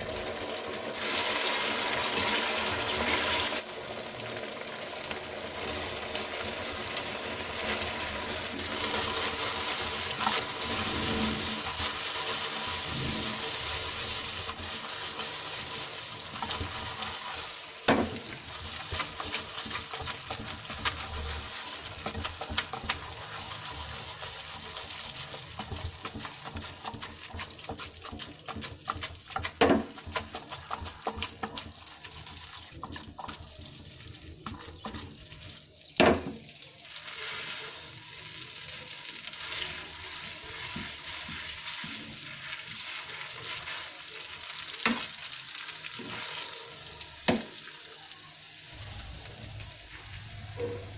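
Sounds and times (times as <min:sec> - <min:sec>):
spaghetti sizzling in a frying pan: 0:00.0 - 0:50.9.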